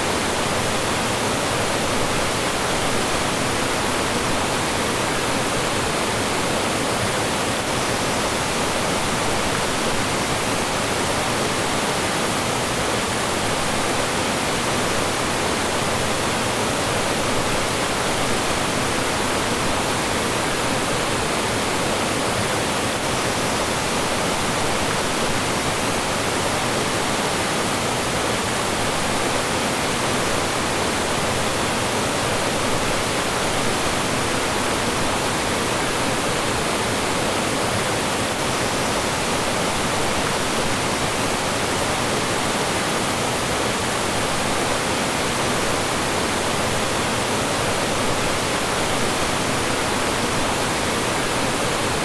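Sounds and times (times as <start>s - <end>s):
stream rushing over rocks: 0.0s - 52.0s.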